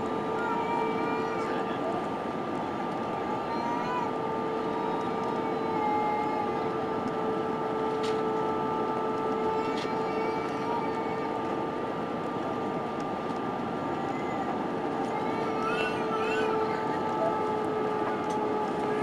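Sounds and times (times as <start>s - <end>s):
airflow and jet engine drone: 0.0s - 19.0s.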